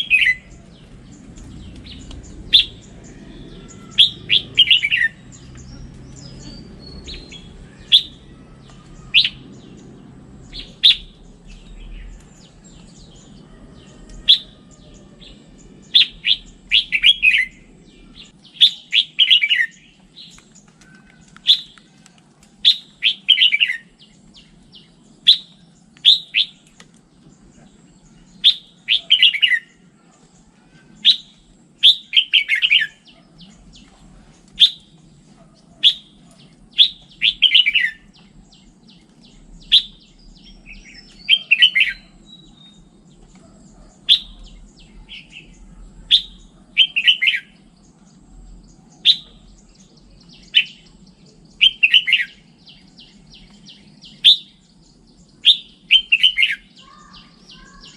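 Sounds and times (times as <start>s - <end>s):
bulbul singing whistled phrases: 0.0s - 13.4s, 15.3s - 20.5s, 22.6s - 26.7s, 27.4s - 29.8s, 30.8s - 33.9s, 34.5s - 35.0s, 35.8s - 47.9s, 48.9s - 57.9s.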